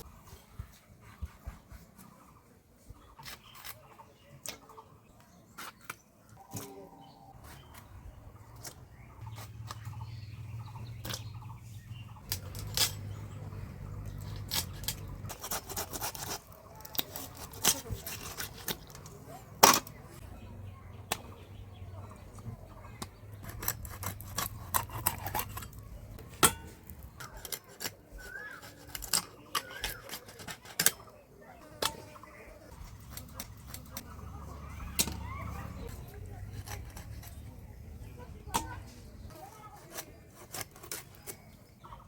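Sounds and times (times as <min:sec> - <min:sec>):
blade scraping food: 0:07.0 - 0:20.5, 0:21.1 - 0:41.9.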